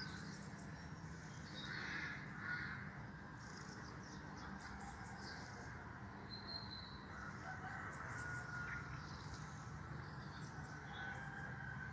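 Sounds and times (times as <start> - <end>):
faint birds calling: 0.0 - 11.9.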